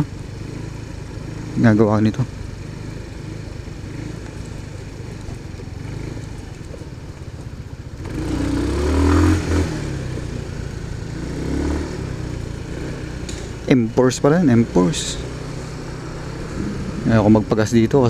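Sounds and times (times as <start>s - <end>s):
scooter engine revving: 0.0s - 18.0s.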